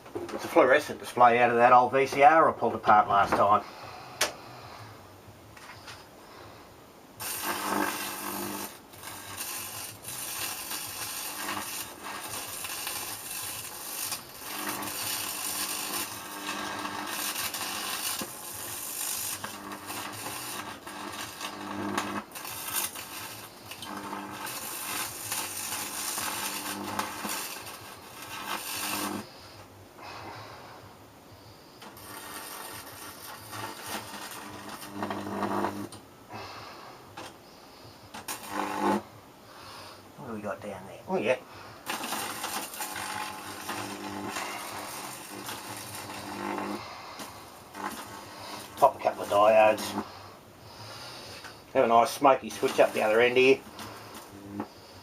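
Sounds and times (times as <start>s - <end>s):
electric arc buzzing and crackling: 0.0s - 4.9s, 7.1s - 55.0s.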